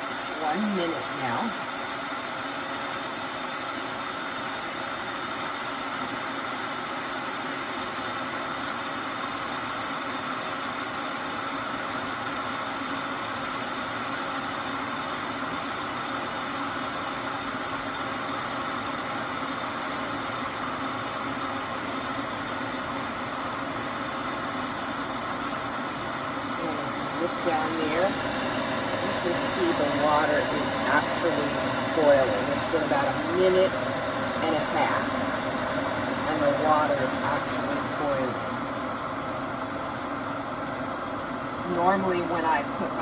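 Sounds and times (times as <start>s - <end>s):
electric kettle heating water: 0.0s - 43.0s.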